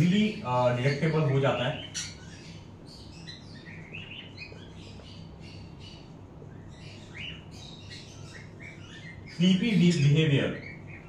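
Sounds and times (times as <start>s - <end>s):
parrots chirping: 0.0s - 11.0s
steady low hum: 0.0s - 11.0s.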